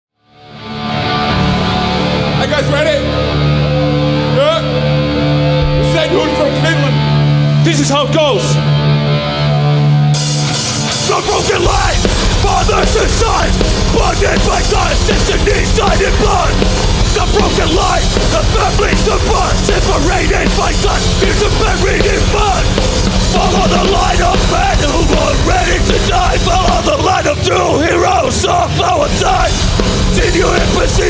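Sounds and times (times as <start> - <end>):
punk band playing live: 0.4 - 31.0.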